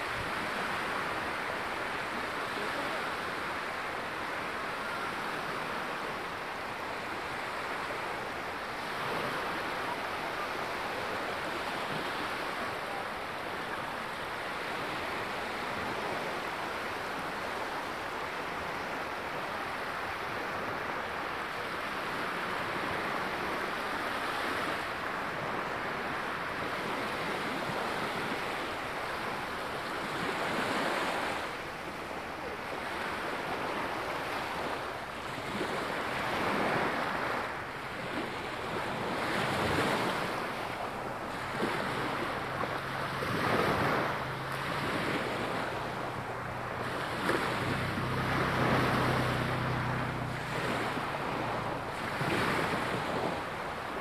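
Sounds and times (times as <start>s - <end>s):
small waves lapping on sand: 0.0s - 54.0s.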